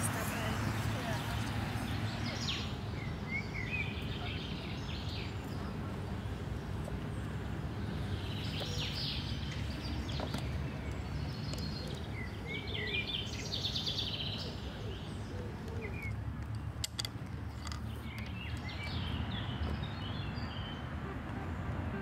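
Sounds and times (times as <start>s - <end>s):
small birds chirping: 0.0s - 21.6s.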